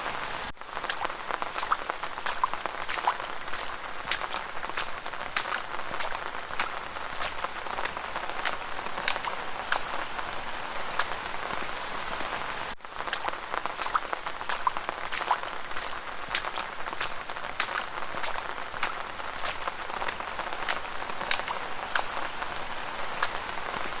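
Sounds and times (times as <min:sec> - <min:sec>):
footsteps splashing through puddles: 0:00.0 - 0:24.0
steady rain: 0:00.0 - 0:24.0.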